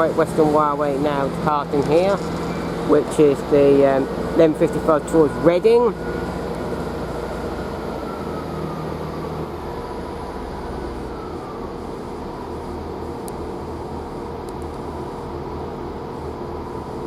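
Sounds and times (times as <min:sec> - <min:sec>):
diesel train rumble: 0:00.0 - 0:17.0
falling whine: 0:00.0 - 0:17.0.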